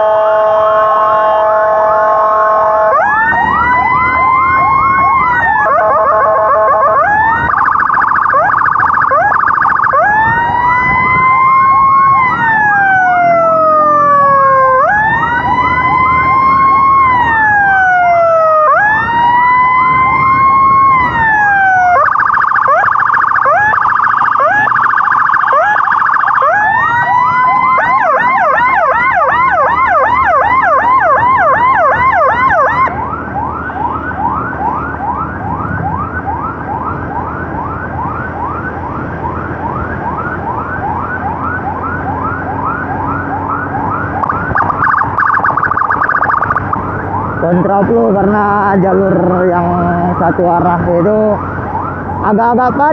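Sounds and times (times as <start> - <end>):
electronic emergency siren: 0.0 - 52.9.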